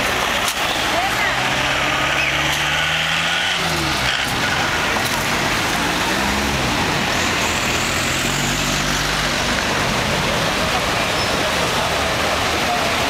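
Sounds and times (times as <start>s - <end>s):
traffic approaching: 0.0s - 13.0s.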